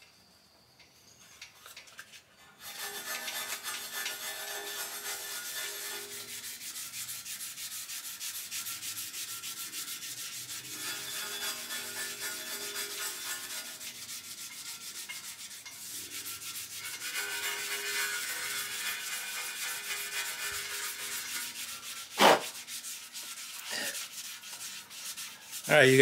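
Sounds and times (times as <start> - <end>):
sandpaper rubbing strokes: 2.6 - 26.0.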